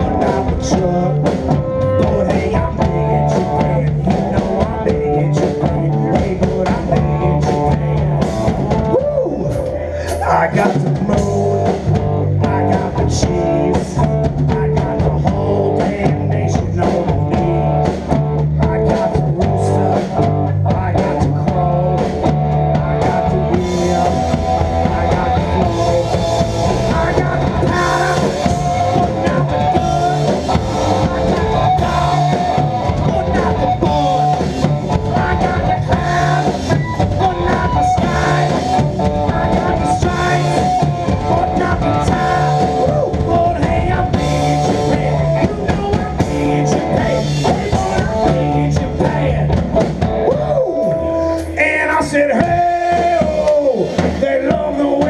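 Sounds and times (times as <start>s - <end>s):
held melody line: 0.0s - 55.0s
live rock band playing: 0.0s - 55.0s.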